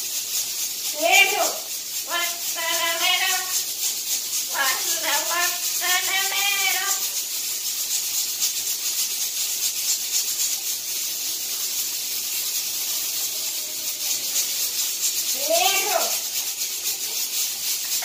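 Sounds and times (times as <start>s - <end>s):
steady background hiss: 0.0s - 18.0s
fast high flutter: 0.8s - 18.0s.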